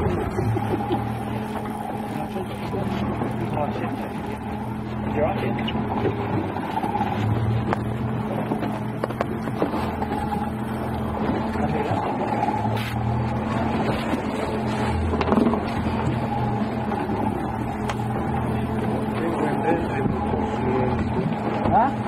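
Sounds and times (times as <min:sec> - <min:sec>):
outboard motor humming: 0:00.0 - 0:22.0
water noise: 0:00.0 - 0:22.0.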